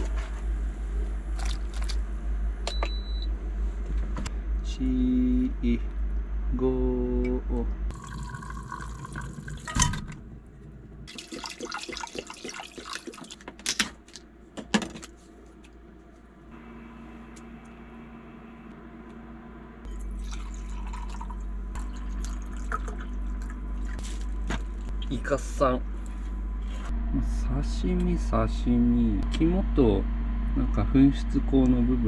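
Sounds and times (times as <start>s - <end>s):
low hum: 0.0s - 11.3s, 15.1s - 32.0s.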